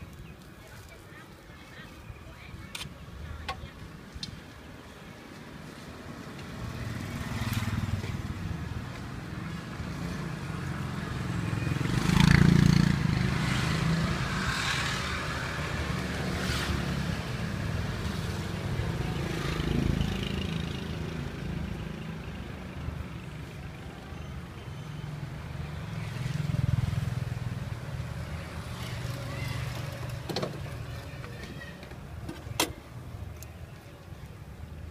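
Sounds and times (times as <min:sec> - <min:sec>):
vehicle engines rumbling: 0:00.0 - 0:34.9
vehicles passing: 0:00.0 - 0:34.9.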